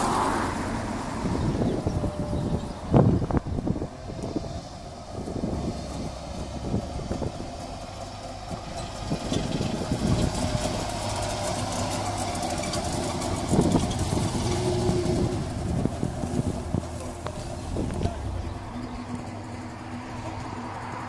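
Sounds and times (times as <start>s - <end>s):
two-stroke car engine: 0.0s - 21.0s.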